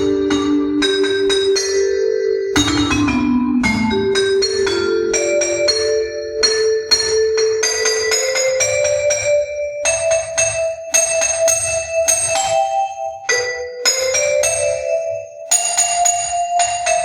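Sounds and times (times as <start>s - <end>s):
bell-like keyboard notes: 0.0s - 17.0s.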